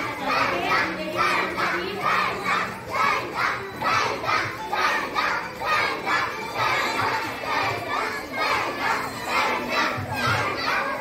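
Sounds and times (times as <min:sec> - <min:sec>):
children chanting: 0:00.0 - 0:11.0.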